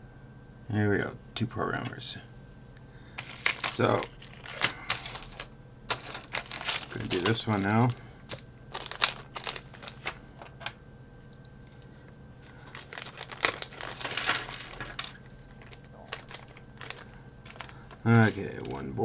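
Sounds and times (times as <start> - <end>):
plastic packaging crinkling: 3.2 - 18.8.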